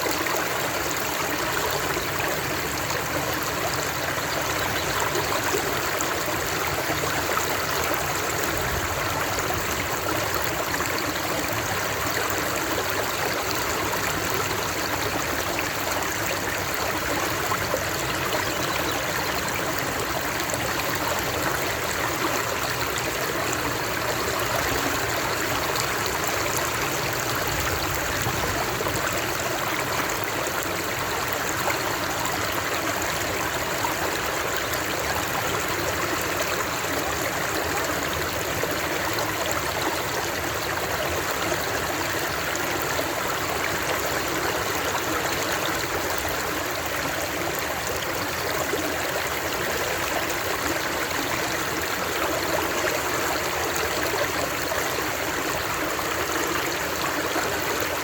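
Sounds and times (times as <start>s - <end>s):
water flowing over rocks: 0.0s - 58.0s.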